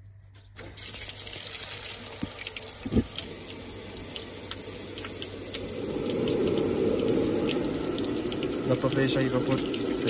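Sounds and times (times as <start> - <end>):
water rushing from a tap: 0.6 - 10.0.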